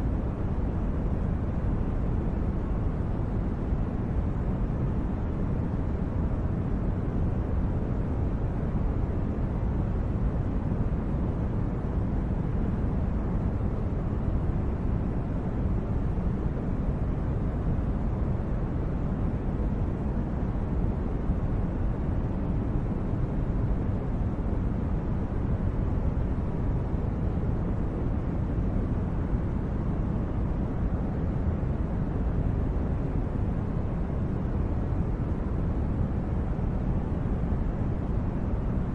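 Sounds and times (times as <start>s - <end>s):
deep rumbling brown noise: 0.0s - 38.9s.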